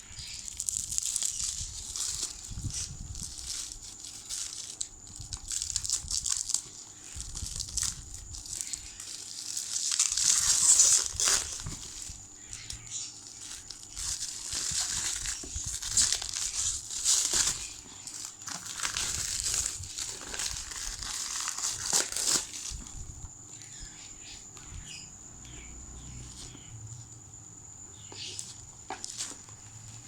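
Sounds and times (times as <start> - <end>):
packaging crinkling and rustling: 0.0 - 23.0, 28.0 - 30.0.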